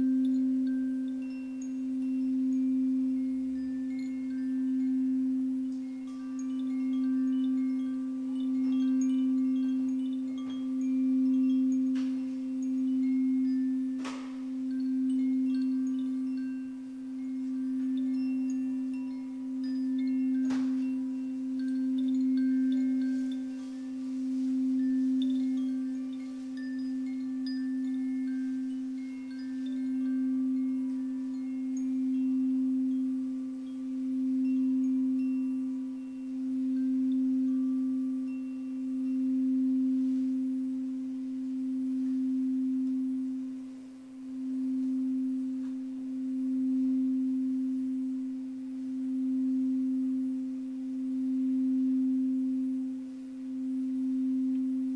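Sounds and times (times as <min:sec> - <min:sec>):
singing bowl low tone: 0:00.0 - 0:54.9.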